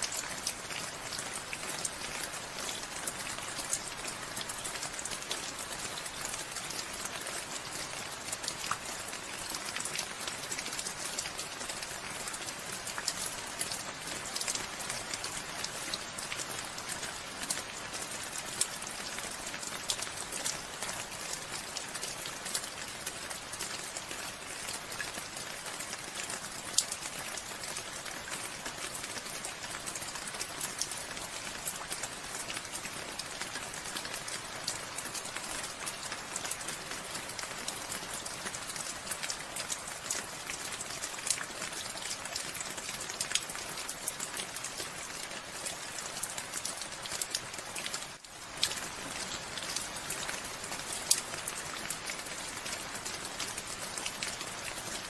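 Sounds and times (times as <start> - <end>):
rain falling: 0.0 - 55.0
raindrops ticking on surfaces: 0.0 - 55.0.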